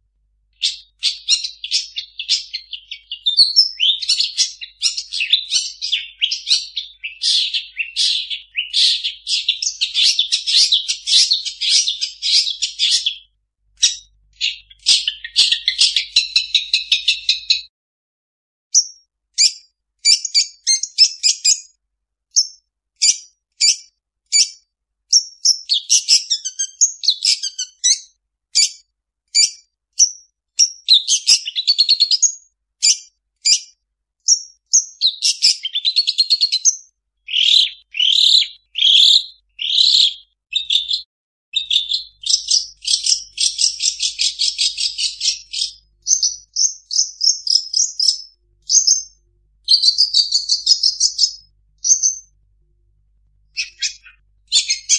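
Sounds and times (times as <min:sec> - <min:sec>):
shrike singing chirps and trills: 0:00.6 - 0:17.7, 0:18.8 - 0:52.3, 0:53.5 - 0:54.9.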